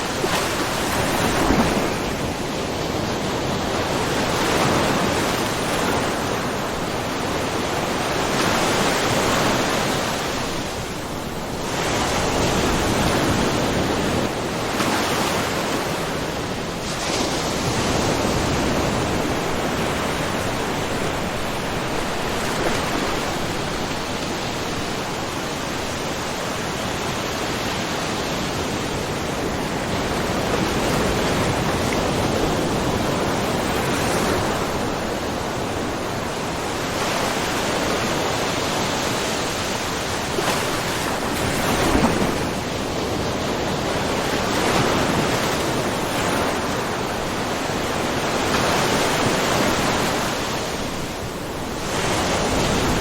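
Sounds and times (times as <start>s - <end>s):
waves splashing on rocky shore: 0.0s - 53.0s.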